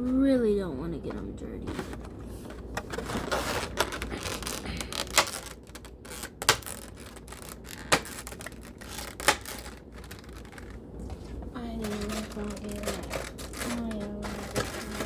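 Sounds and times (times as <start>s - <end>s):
packaging rustling: 1.6s - 15.0s.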